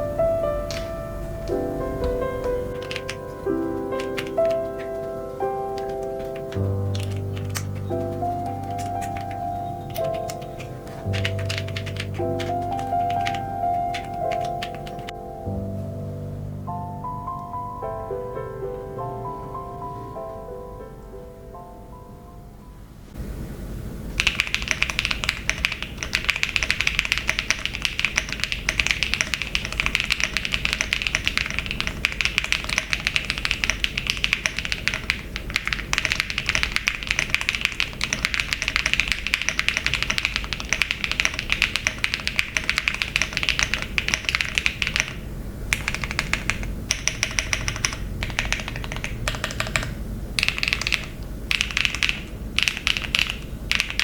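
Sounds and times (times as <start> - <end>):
mechanical keyboard typing: 0.7 - 15.2, 24.2 - 54.0.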